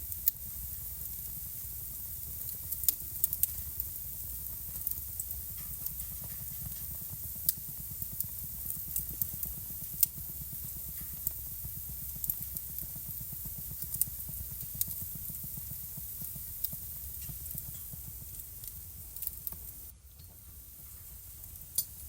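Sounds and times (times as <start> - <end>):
low rumble of burning logs: 0.0 - 22.0
wood fire crackling and popping: 0.0 - 22.0.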